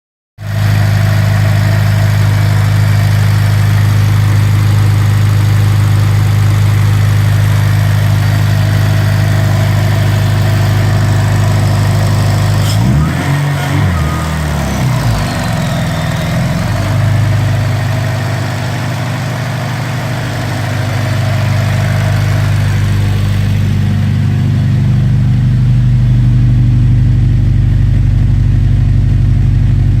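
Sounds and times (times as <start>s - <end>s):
supercharged engine idling and revving: 0.4s - 30.0s.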